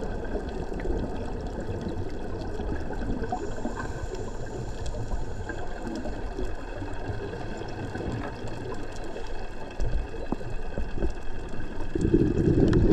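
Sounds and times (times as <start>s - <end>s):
underwater rumble and hiss: 0.0s - 12.9s.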